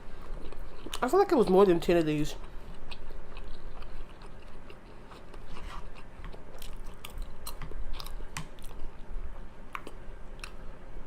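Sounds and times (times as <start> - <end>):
person chewing: 0.0 - 1.7, 2.3 - 10.7.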